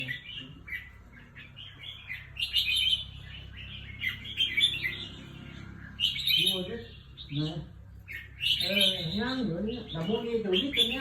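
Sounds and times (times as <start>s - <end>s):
bird chirping song: 0.0s - 11.0s.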